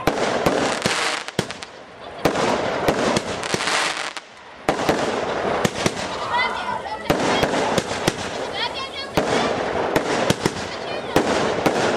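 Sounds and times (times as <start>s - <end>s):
firework bangs: 0.0s - 11.9s
firework crackling: 0.0s - 11.9s.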